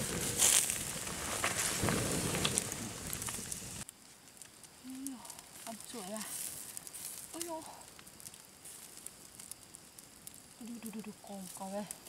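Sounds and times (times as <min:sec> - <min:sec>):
campfire crackling and hissing: 0:00.0 - 0:12.0
sharp pops of fire: 0:00.0 - 0:12.0.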